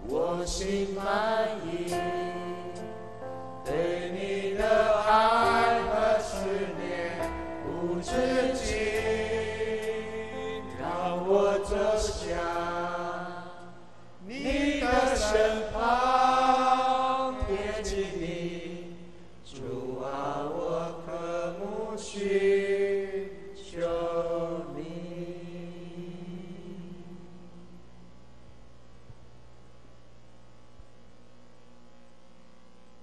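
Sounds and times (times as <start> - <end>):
person singing worship song: 0.0 - 28.1.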